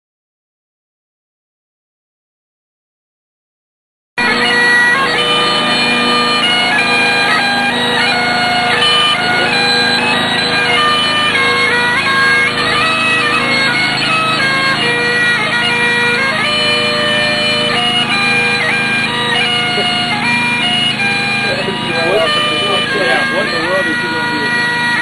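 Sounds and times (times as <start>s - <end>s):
bagpipes playing a tune: 4.2s - 25.0s.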